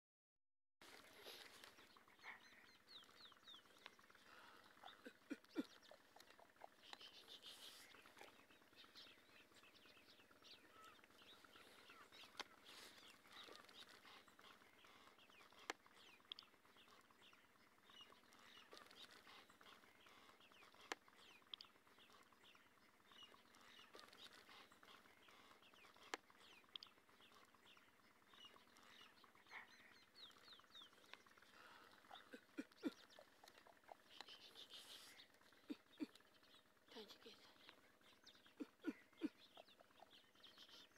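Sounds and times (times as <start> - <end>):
small birds chirping: 0.8 - 40.9.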